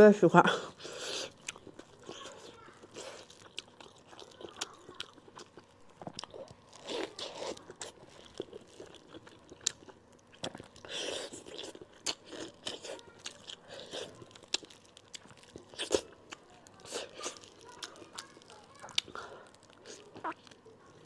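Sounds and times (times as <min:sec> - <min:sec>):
wet chewing and mouth smacks: 0:00.8 - 0:20.7
sharp clicks and crunches: 0:01.3 - 0:21.0.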